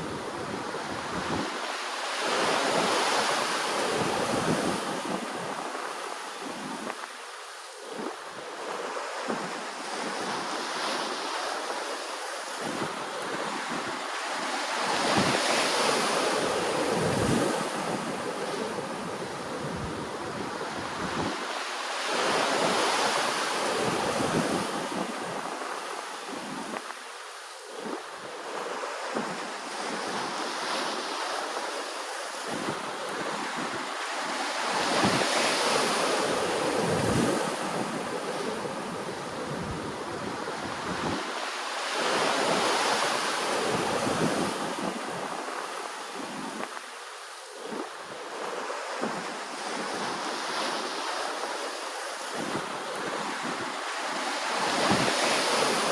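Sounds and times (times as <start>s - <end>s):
ocean waves washing onto shore: 0.0s - 55.9s.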